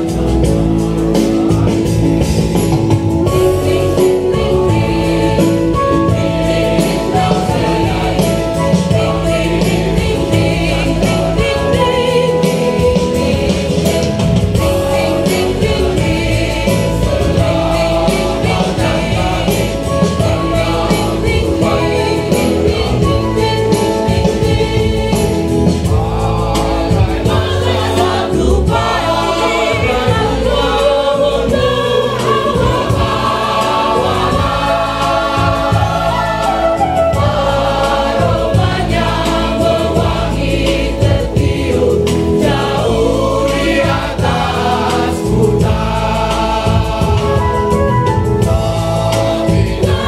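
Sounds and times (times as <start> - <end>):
choir singing a hymn: 0.0 - 50.0.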